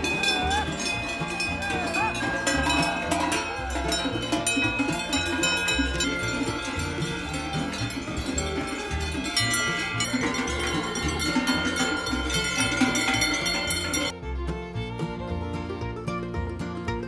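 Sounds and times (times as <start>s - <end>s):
cowbells clanging: 0.0s - 14.2s
music with bass beat: 0.0s - 17.0s.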